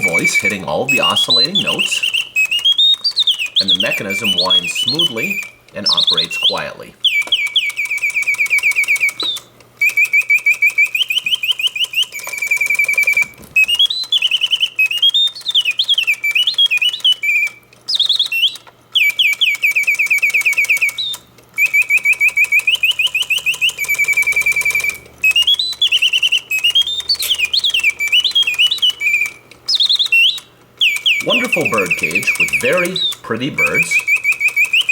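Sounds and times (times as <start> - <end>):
mechanical birdsong whistle: 0.0 - 34.9.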